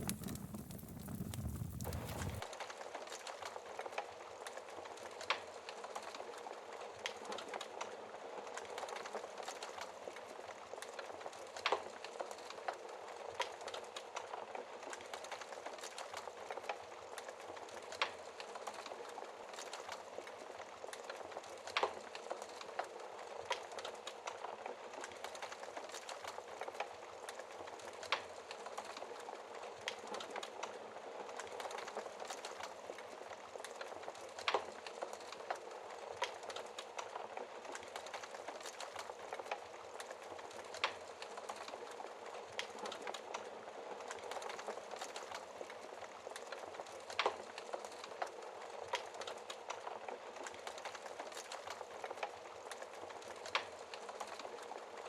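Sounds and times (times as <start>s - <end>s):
fire popping: 0.0s - 2.4s, 10.3s - 55.0s
wood fire crackling: 0.0s - 55.0s.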